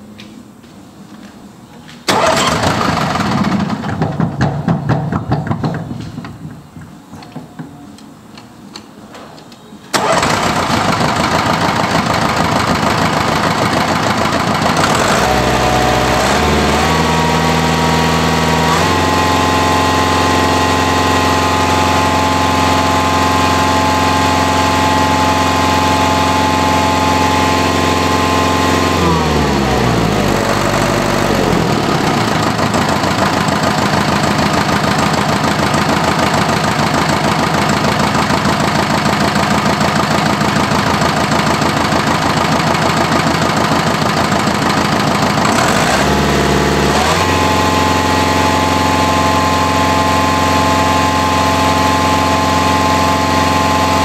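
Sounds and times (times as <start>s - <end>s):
diesel engine cranking and running: 2.1s - 6.4s, 9.9s - 54.0s.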